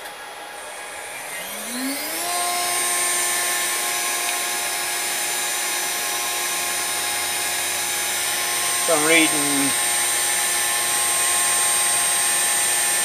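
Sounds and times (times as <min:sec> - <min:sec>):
spindle motor whine: 0:00.0 - 0:13.0.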